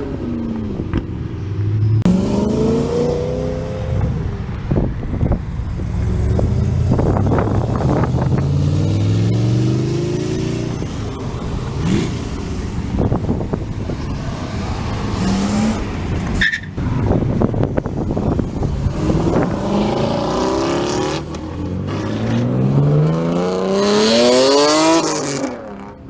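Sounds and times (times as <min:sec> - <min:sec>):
car engine accelerating: 0:00.0 - 0:26.0
traffic noise: 0:00.0 - 0:26.0.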